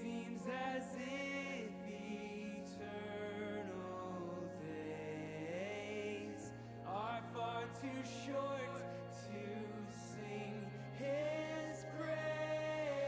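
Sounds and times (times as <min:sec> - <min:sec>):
slow worship band music: 0:00.0 - 0:13.0.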